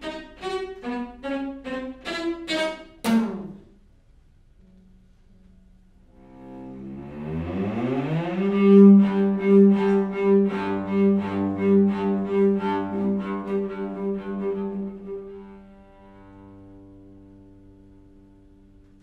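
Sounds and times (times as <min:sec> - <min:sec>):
string quartet playing: 0:00.0 - 0:03.8, 0:06.1 - 0:19.0.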